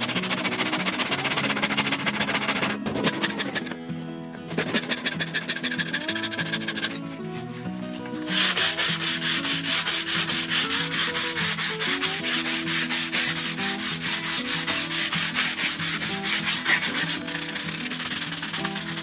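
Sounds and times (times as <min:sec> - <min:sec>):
sandpaper rubbing on wood: 0:00.0 - 0:03.8, 0:04.6 - 0:19.0.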